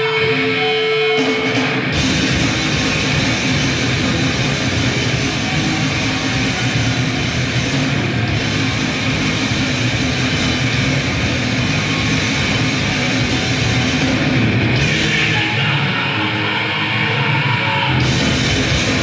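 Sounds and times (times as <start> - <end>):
band playing loud rock: 0.0 - 19.0.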